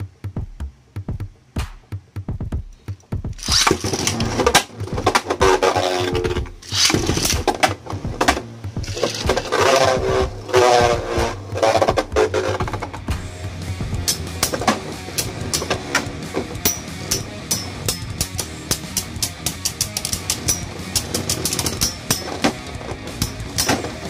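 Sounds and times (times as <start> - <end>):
electronic music with a beat: 0.0 - 24.0
spinning tops whirring and knocking: 3.3 - 13.2, 14.0 - 24.0.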